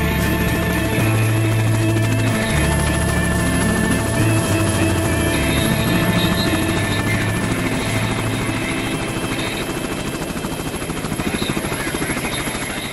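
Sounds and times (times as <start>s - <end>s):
helicopter rotor blades beating: 0.0s - 12.9s.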